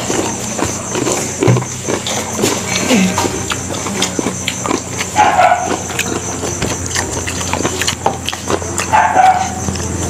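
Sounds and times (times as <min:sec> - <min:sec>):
wet chewing mouth noises: 0:00.0 - 0:10.0.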